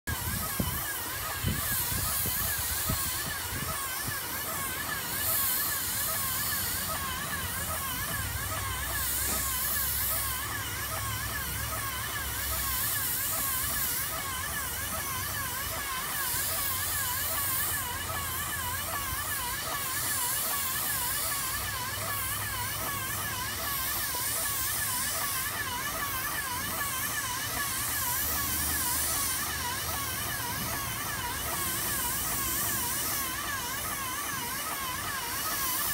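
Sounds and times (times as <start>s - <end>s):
paint sprayer pump whine: 0.1s - 35.9s
spray gun hiss: 0.1s - 35.9s.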